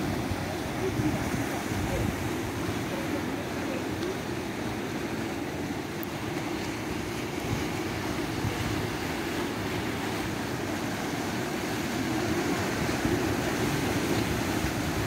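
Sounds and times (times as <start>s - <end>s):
sea surf: 0.0s - 15.0s.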